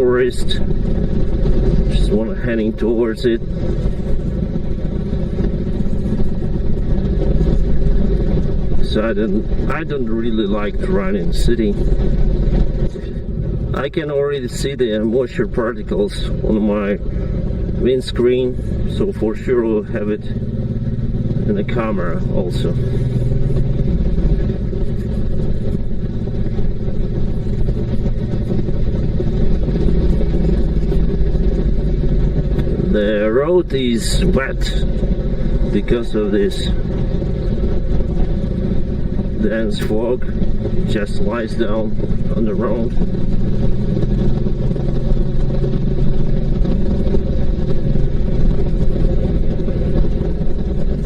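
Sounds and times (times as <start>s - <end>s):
motorcycle engine rumbling: 0.0s - 51.0s.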